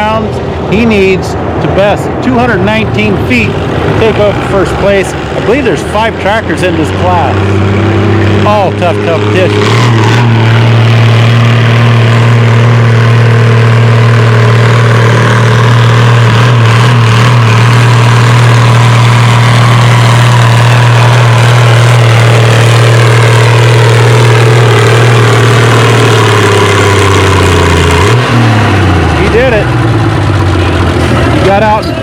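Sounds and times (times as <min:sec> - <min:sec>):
tractor engine under load: 0:00.0 - 0:32.0.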